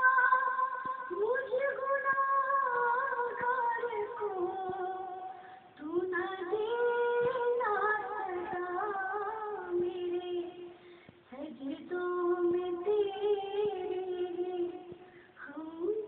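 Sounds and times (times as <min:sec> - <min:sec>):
woman singing a hymn unaccompanied: 0:00.0 - 0:16.0.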